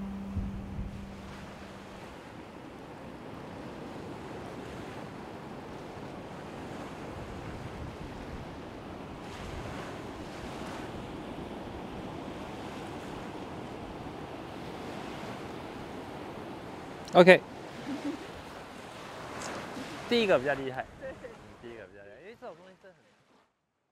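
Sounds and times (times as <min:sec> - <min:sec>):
wind blowing on microphone: 0:00.0 - 0:21.6
sea surf washing on shore: 0:00.0 - 0:23.4.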